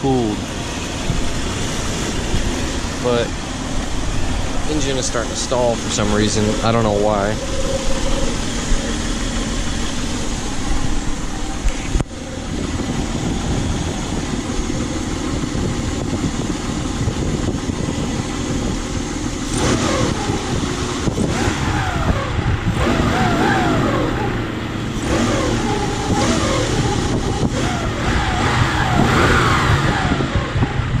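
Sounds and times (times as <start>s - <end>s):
car engine idling: 0.0s - 31.0s
engine revving: 0.0s - 31.0s.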